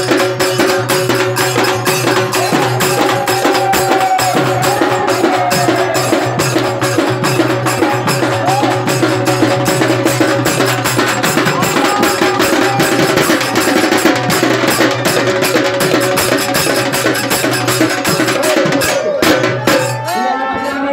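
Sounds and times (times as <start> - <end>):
frame drum: 0.0 - 20.2
hand drum played fast: 0.0 - 20.2.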